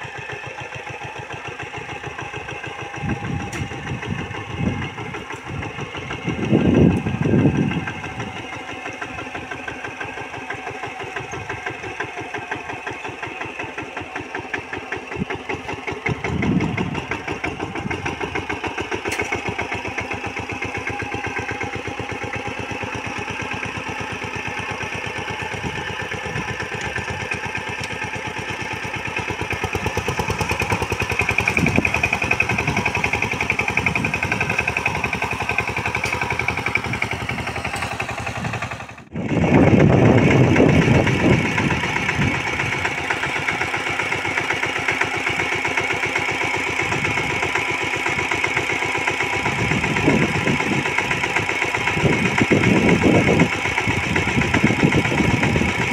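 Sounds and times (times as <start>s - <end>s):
diesel tiller engine chugging: 0.0s - 55.9s.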